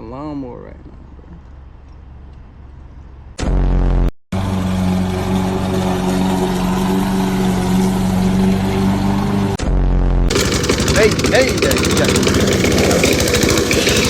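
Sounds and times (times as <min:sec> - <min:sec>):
riding lawn mower engine: 0:00.9 - 0:03.4, 0:04.4 - 0:09.6, 0:10.3 - 0:14.0.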